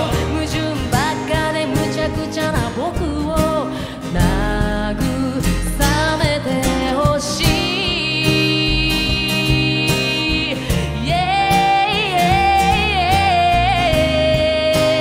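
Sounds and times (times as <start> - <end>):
live band accompaniment: 0.0 - 15.0
person singing lead vocal: 0.0 - 15.0.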